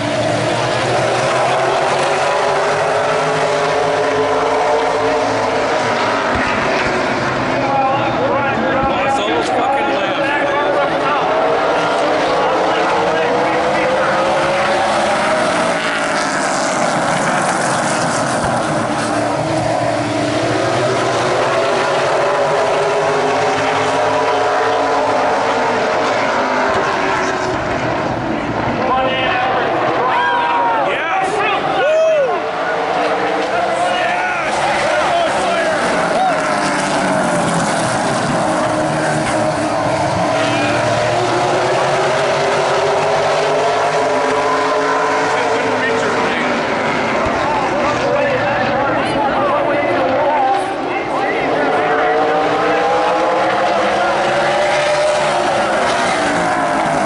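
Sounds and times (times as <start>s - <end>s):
racing car engines: 0.0s - 57.0s.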